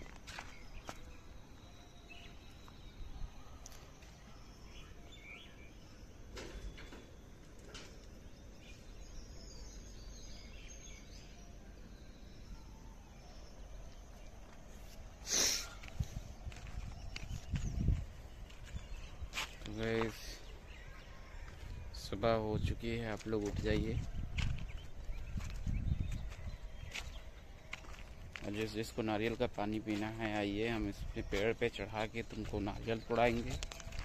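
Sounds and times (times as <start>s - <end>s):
bird chirps: 0.0s - 34.0s.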